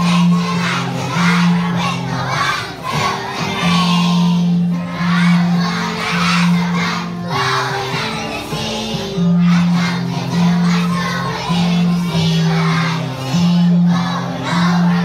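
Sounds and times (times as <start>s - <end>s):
backing music with low notes: 0.0s - 15.0s
children singing loudly: 0.0s - 15.0s.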